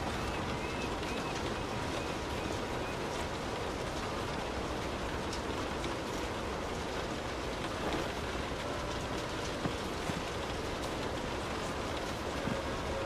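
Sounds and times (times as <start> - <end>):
rain pattering on car roof: 0.0 - 13.0.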